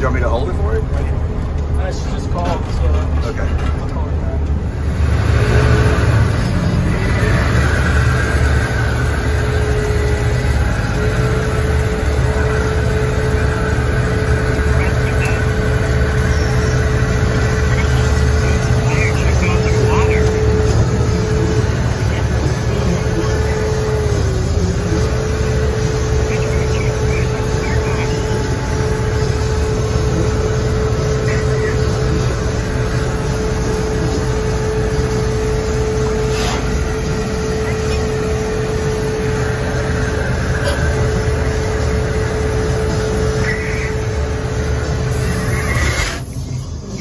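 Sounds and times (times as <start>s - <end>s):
fire truck engine drone: 0.0s - 47.0s
steady whine: 0.0s - 47.0s.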